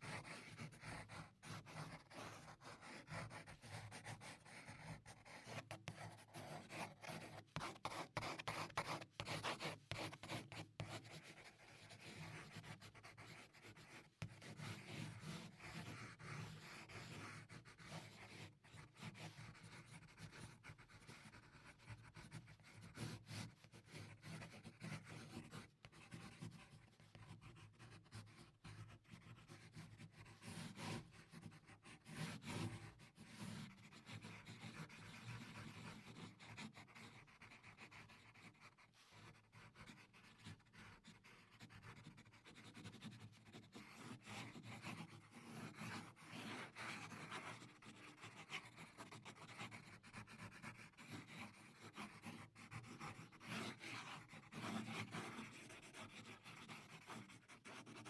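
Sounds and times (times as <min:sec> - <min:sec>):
pencil scratching on paper: 0:00.0 - 0:58.0.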